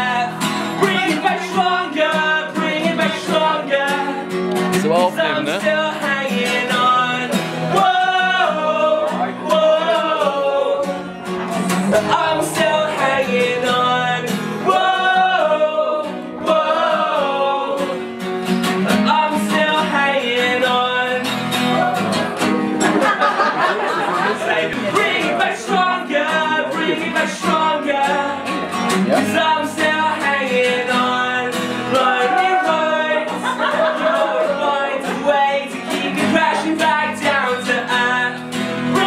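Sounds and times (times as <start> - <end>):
man singing: 0.0 - 22.4, 24.1 - 39.0
strummed acoustic guitar: 0.0 - 39.0.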